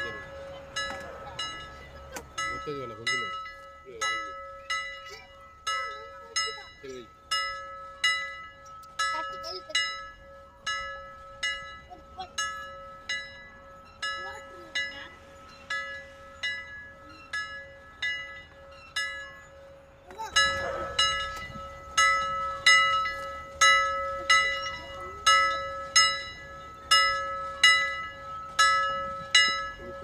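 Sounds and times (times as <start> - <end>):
bell ringing: 0.0 - 30.0.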